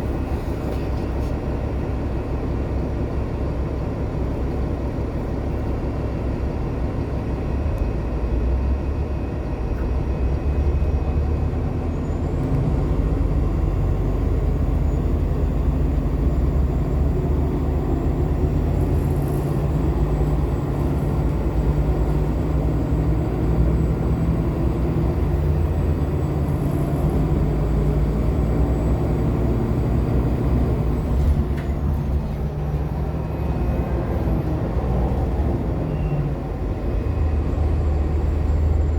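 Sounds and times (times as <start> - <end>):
bus cabin low rumble: 0.0 - 38.9.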